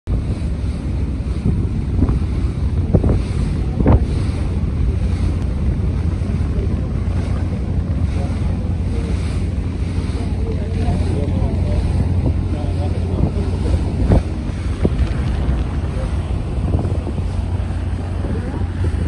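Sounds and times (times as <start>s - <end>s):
boat engine rumble: 0.0s - 19.0s
wind buffeting microphone: 0.1s - 19.0s.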